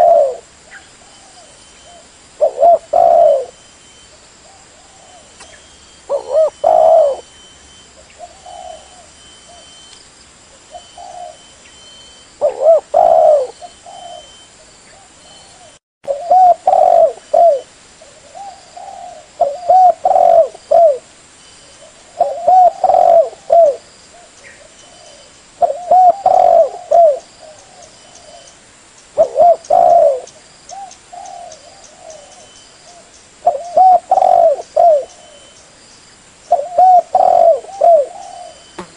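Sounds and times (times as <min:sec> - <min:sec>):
dove cooing: 0:00.0 - 0:07.4, 0:08.0 - 0:09.8, 0:10.6 - 0:11.6, 0:12.4 - 0:21.1, 0:21.7 - 0:28.5, 0:29.2 - 0:35.6, 0:36.5 - 0:38.9.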